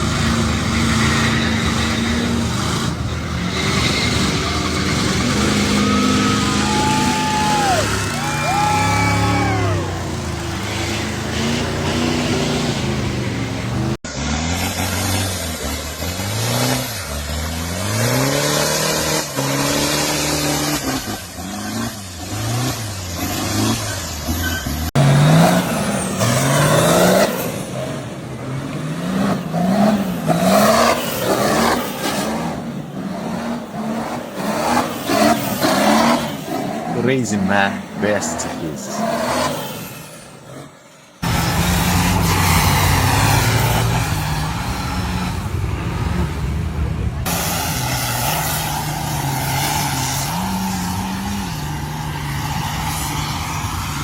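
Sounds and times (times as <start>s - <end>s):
truck engines revving: 0.0s - 54.0s.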